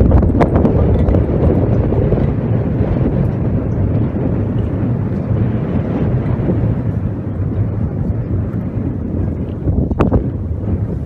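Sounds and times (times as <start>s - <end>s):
boat engine hum: 0.0s - 11.0s
wind buffeting microphone: 0.0s - 11.0s.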